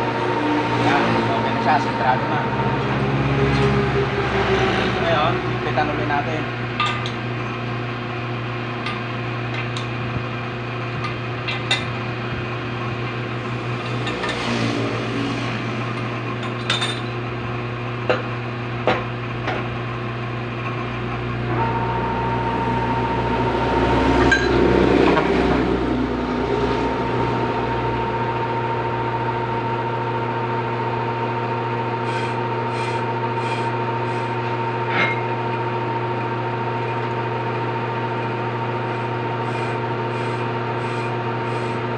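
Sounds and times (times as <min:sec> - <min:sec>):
high whine of cutting tool: 0:00.0 - 0:17.7, 0:18.6 - 0:41.9
lathe motor hum: 0:00.0 - 0:41.9.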